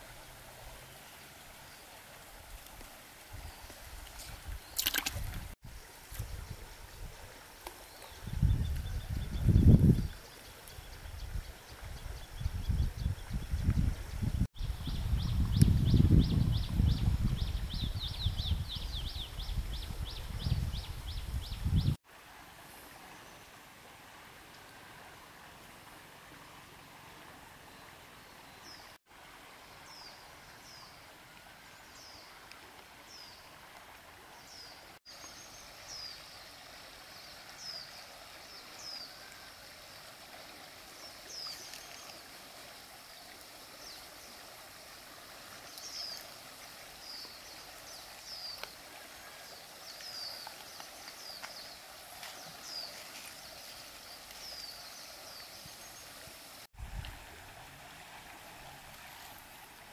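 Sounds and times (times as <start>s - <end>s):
flowing water hiss: 0.0s - 59.9s.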